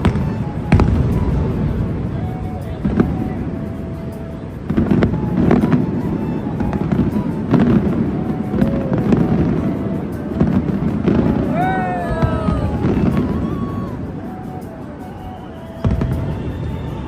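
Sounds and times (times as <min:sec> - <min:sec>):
fireworks booming and crackling: 0:00.0 - 0:14.9, 0:15.8 - 0:17.0
crowd noise: 0:00.0 - 0:17.0.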